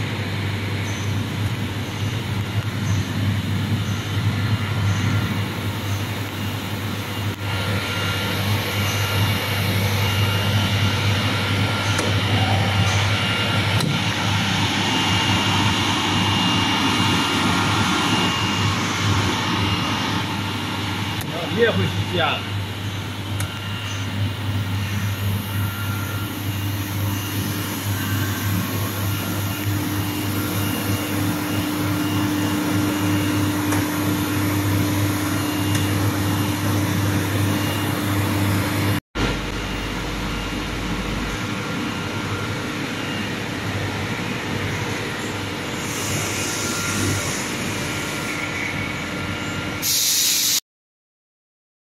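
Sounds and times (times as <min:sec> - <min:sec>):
dryer blowers and motors humming: 0:00.0 - 0:50.6.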